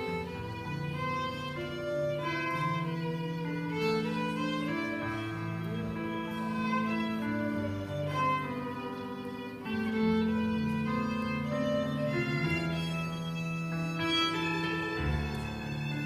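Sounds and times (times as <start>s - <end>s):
bowed strings playing chords: 0.0s - 16.0s
violin holding notes: 0.0s - 16.0s.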